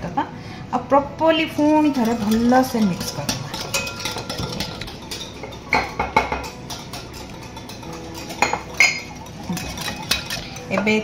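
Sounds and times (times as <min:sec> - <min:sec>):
whisk stirring batter: 0:01.3 - 0:11.0
metal clinking on glass: 0:01.9 - 0:10.9.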